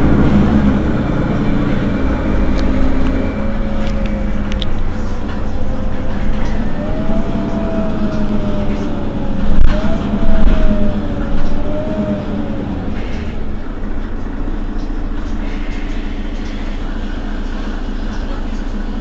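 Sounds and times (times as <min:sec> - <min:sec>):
bus diesel engine idling: 0:00.0 - 0:19.0
wavering whine: 0:00.0 - 0:19.0.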